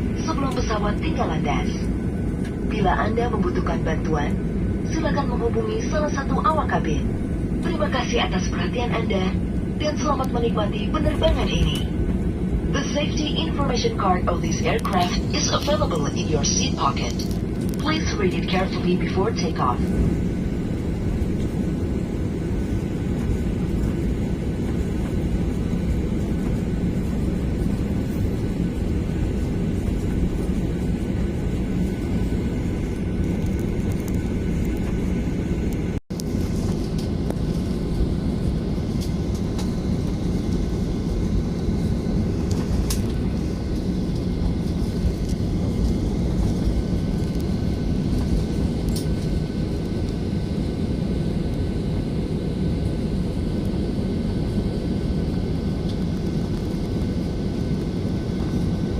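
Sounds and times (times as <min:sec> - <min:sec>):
jet engine cabin rumble: 0:00.0 - 0:58.9.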